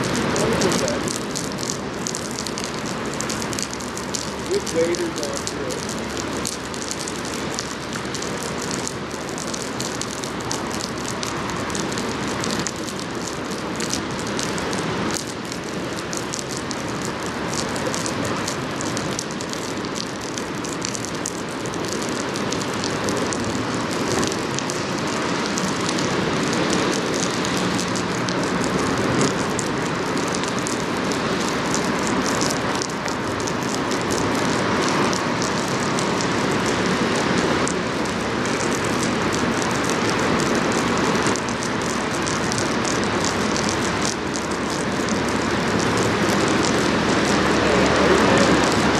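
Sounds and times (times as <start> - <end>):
rain hissing: 0.0 - 48.9
ship engine rumble: 0.0 - 48.9.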